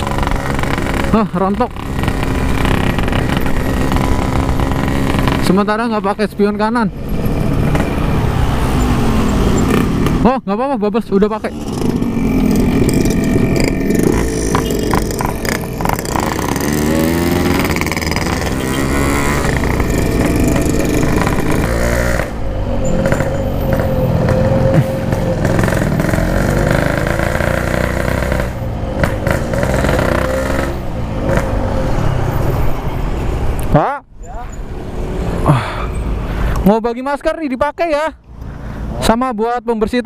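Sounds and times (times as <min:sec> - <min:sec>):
motorcycle engine revving: 0:00.0 - 0:10.4, 0:11.1 - 0:33.5.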